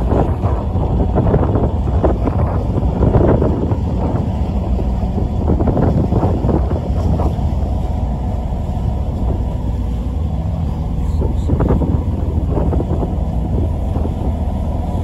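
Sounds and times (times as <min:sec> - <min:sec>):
low rumble from ship: 0:00.0 - 0:15.0
wind buffeting microphone: 0:00.0 - 0:15.0.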